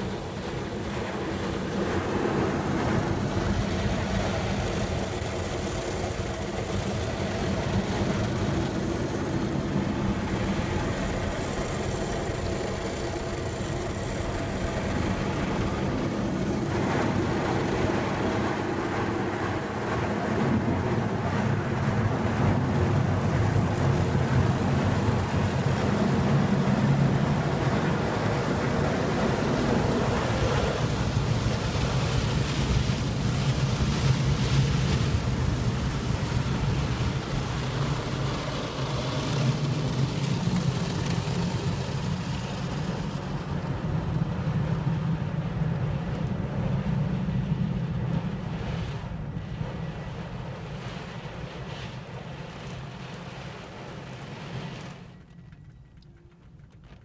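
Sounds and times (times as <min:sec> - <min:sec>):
spraying water: 0:00.0 - 0:55.0
low machine hum: 0:00.0 - 0:57.0.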